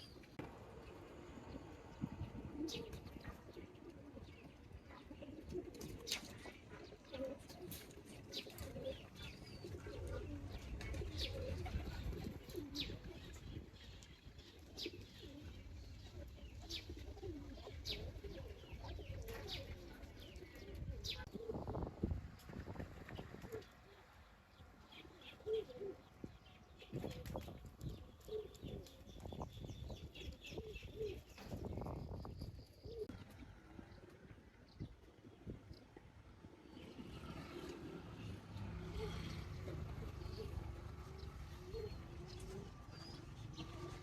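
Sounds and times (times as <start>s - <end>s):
pigeons cooing: 1.0s - 44.0s.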